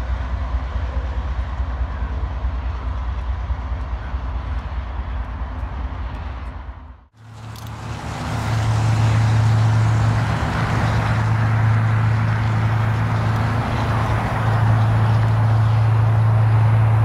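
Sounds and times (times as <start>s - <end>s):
diesel locomotive engine drone: 0.0s - 17.0s
train rumbling: 0.0s - 17.0s.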